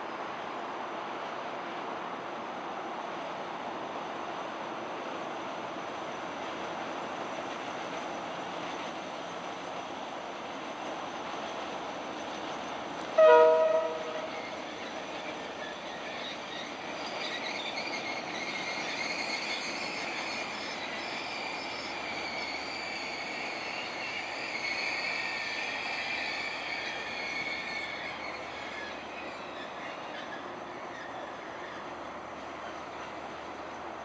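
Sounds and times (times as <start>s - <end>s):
train rolling on rails: 0.0s - 34.0s.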